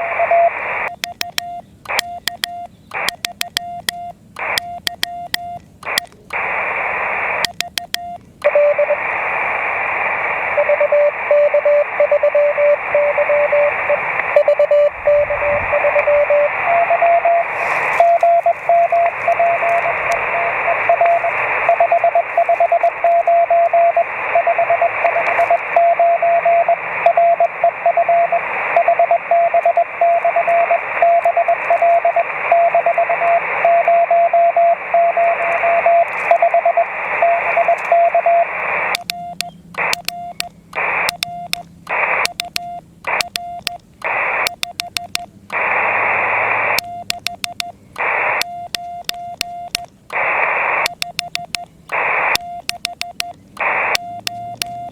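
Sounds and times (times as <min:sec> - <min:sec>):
radio band hiss: 0:00.0 - 0:03.6, 0:04.4 - 0:05.1, 0:05.7 - 0:39.1, 0:39.7 - 0:54.9
morse code beeps: 0:00.0 - 0:06.4, 0:07.4 - 0:09.0, 0:10.6 - 0:45.7, 0:46.4 - 0:54.9.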